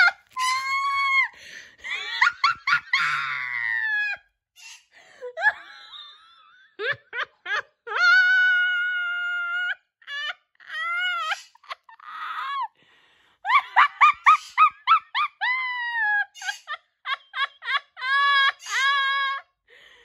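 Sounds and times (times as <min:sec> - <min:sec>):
woman squealing laughter: 0:00.0 - 0:04.2, 0:05.3 - 0:12.7, 0:13.5 - 0:19.5.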